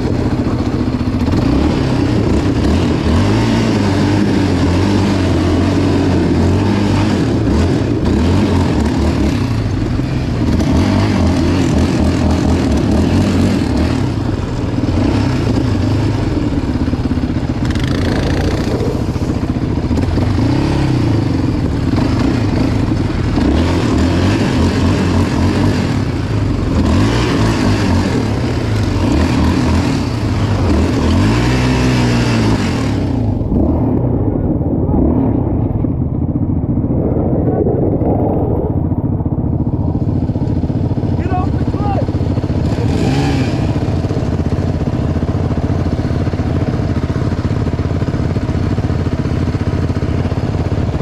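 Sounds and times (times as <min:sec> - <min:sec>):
atv engine revving: 0:00.0 - 0:51.0.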